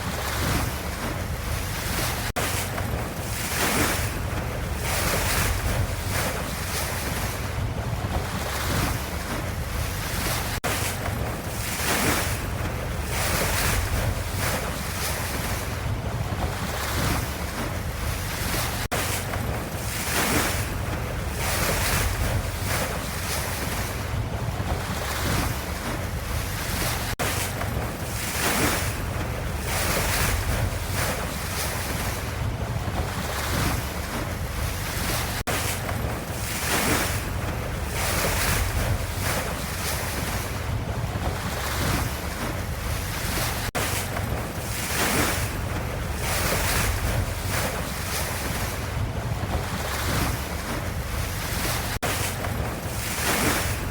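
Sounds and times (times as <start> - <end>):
ocean waves washing in: 0.0 - 53.9.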